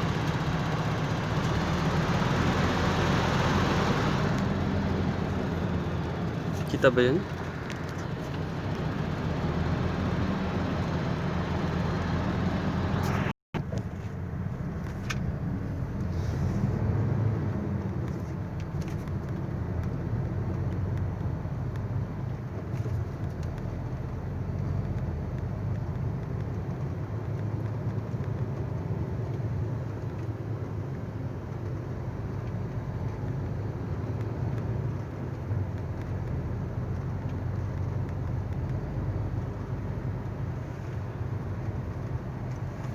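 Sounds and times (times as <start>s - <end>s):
truck engine rumbling: 0.0s - 42.9s.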